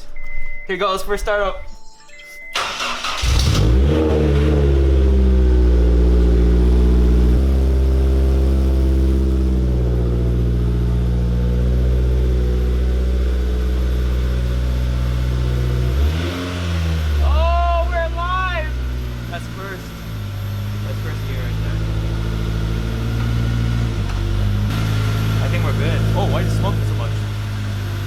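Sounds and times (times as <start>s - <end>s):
car engine starting and idling: 2.4s - 28.0s.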